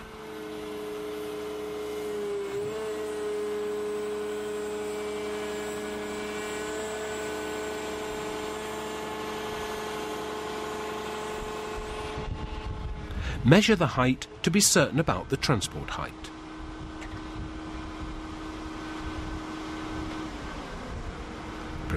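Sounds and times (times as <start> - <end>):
excavator engine running: 0.0 - 21.9.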